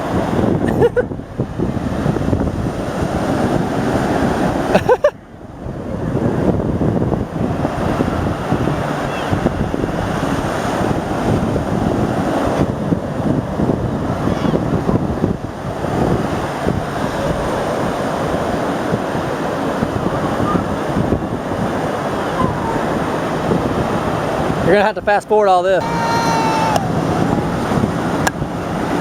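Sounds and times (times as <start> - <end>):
wind buffeting microphone: 0.0 - 25.2, 25.8 - 29.0
ocean surf washing ashore: 0.0 - 29.0.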